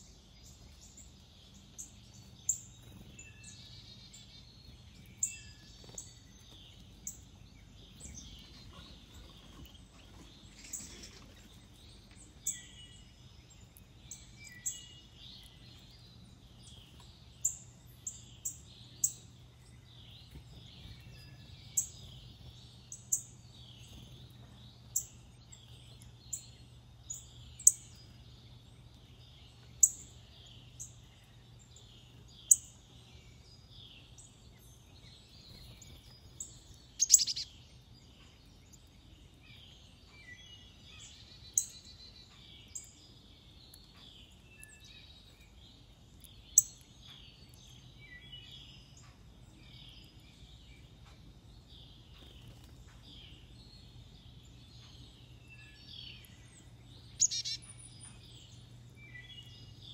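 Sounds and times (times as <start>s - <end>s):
faint low hum: 0.0s - 59.9s
songbirds twittering: 0.0s - 59.9s.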